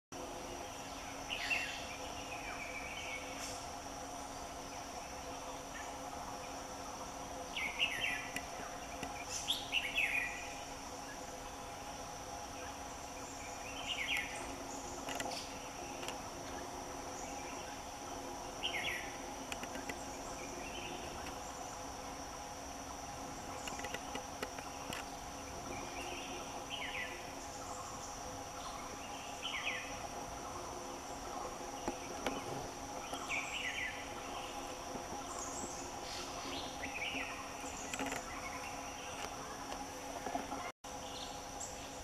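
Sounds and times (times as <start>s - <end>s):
high-pitched insect drone: 0.3s - 42.0s.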